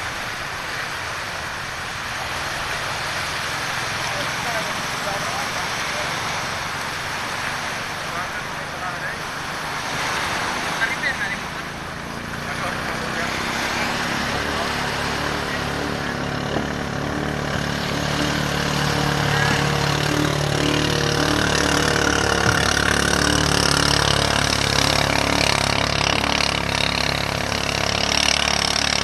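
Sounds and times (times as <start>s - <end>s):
boat engine running at speed: 0.0s - 29.0s.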